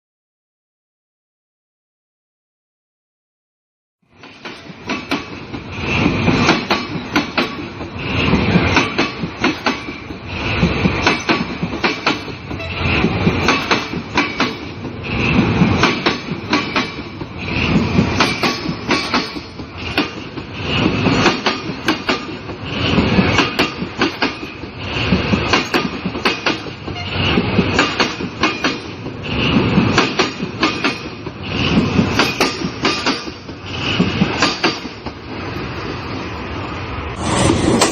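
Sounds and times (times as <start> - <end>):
train wheels clattering over rail joints: 4.2 - 35.5.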